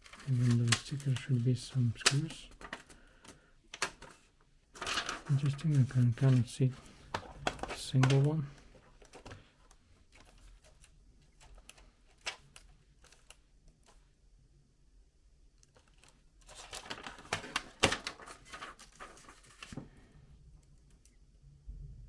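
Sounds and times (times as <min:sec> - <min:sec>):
tools clicking and scratching plastic: 0:00.0 - 0:04.2, 0:04.8 - 0:14.0, 0:15.6 - 0:19.8.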